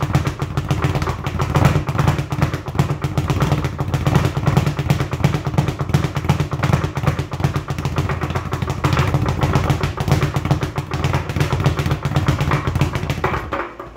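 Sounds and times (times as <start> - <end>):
speed bag rattling thuds: 0.0 - 13.9.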